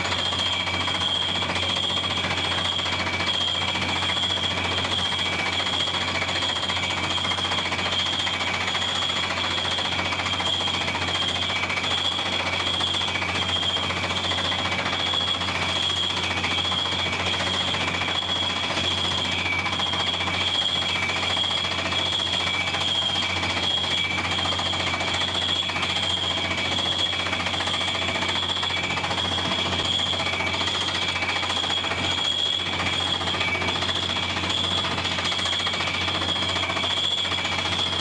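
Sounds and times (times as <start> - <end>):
drilling rig clattering: 0.0 - 38.0.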